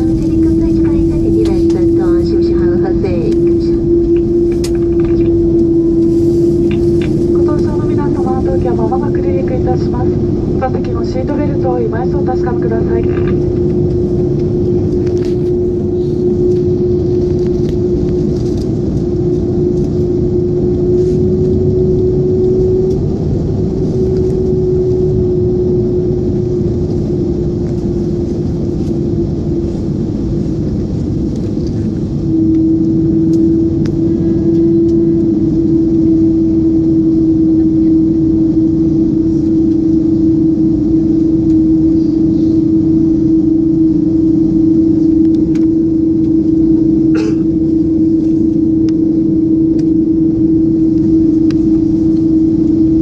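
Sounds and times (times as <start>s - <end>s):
jet engine roar in cabin: 0.0s - 53.0s
steady engine hum: 0.0s - 53.0s.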